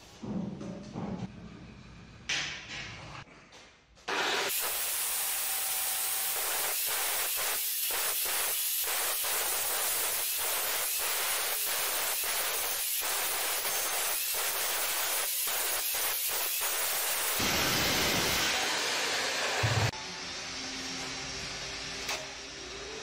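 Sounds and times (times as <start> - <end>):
angle grinder cutting steel: 4.1 - 23.0.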